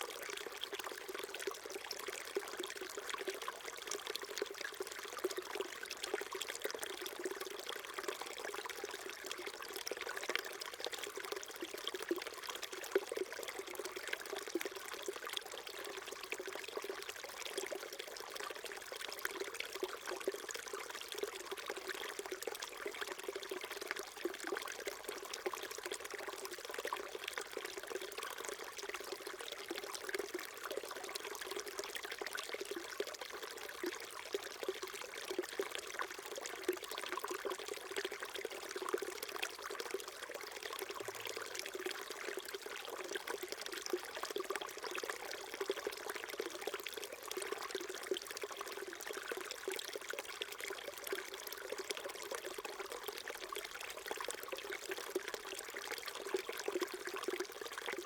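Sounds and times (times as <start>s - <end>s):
stream water gurgling over rocks: 0.0s - 58.0s.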